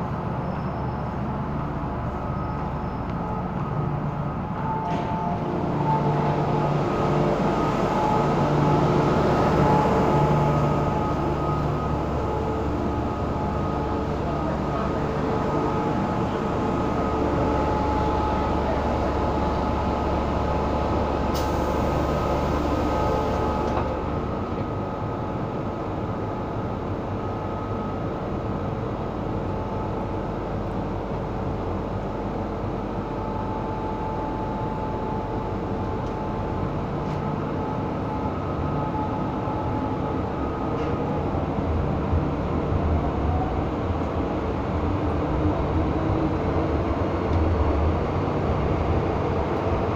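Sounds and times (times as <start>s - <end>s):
subway car rumble: 0.0s - 49.9s.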